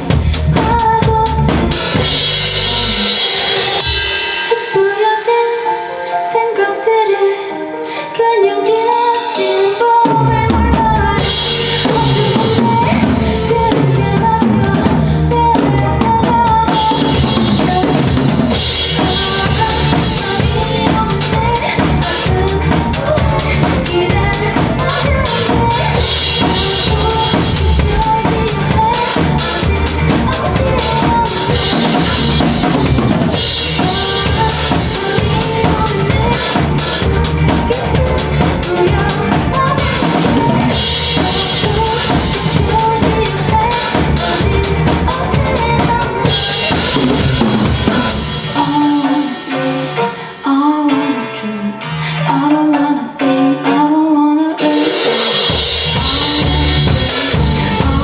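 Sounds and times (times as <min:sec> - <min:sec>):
drum kit beat: 0:00.0 - 0:06.0, 0:08.6 - 0:51.2, 0:54.6 - 0:58.0
live band instrumental: 0:00.0 - 0:58.0.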